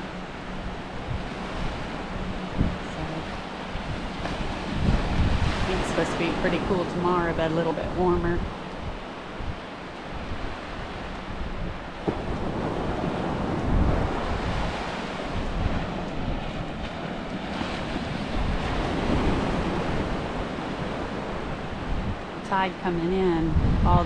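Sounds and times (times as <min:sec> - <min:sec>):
small waves breaking on a beach: 0:00.0 - 0:24.0
wind buffeting microphone: 0:00.0 - 0:24.0.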